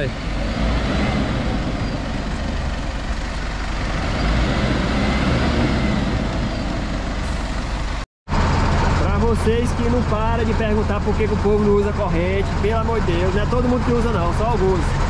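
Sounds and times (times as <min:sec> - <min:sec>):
heavy vehicle engines under load: 0:00.0 - 0:15.0.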